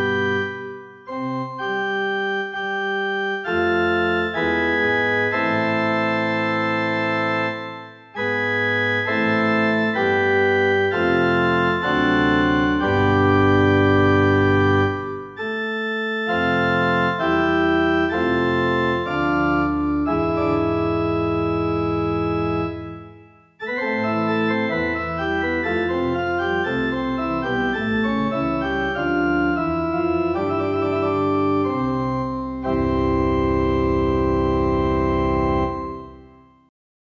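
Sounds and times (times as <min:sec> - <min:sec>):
pipe organ chords: 0:00.0 - 0:36.5.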